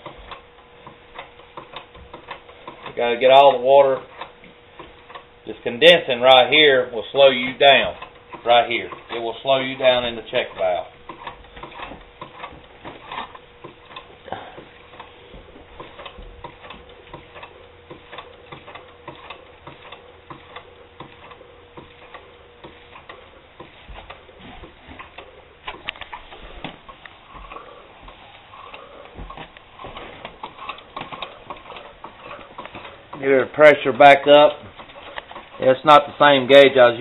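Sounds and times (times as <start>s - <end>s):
steam engine clicking and ticking: 0.0s - 37.0s.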